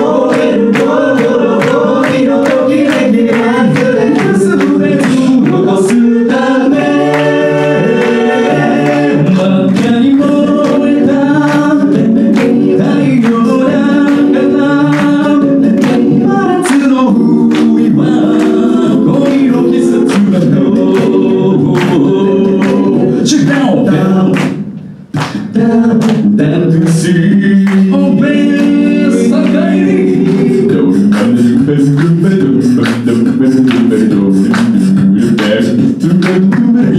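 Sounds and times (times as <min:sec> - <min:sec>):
group singing in harmony: 0:00.0 - 0:36.9
vocal percussion beat: 0:00.0 - 0:36.9.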